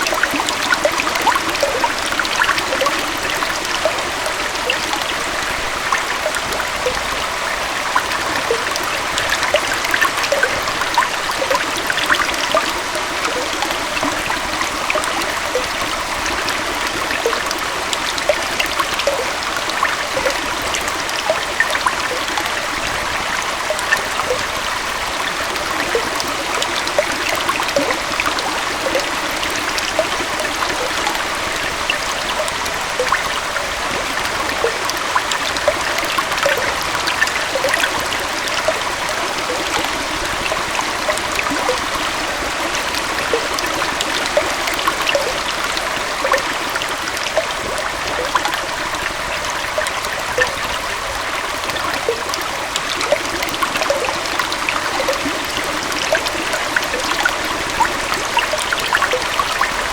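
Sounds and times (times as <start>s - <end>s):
small waterfall and stream: 0.0s - 59.9s.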